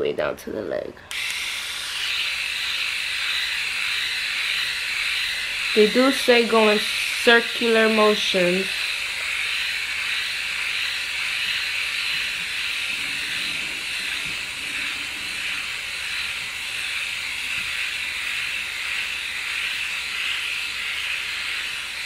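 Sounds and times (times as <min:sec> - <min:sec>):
electric shaver whirring: 0:01.0 - 0:22.0.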